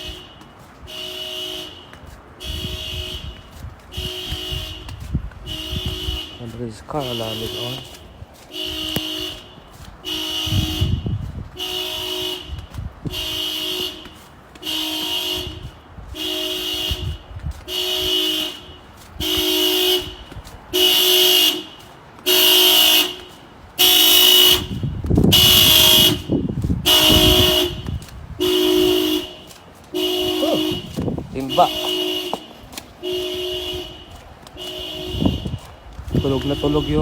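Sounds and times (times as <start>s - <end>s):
car alarm horn honking: 0.0s - 37.0s.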